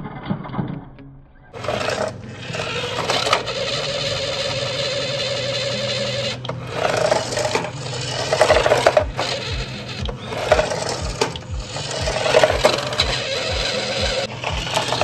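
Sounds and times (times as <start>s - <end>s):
toy truck motor whirring: 1.6s - 15.0s.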